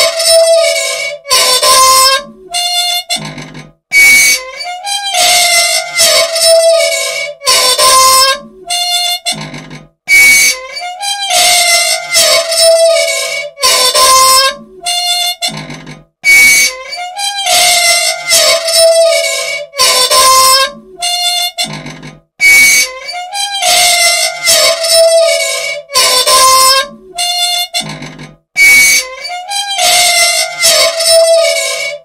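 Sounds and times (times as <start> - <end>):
machine squealing metal-on-metal: 0.0 - 32.0.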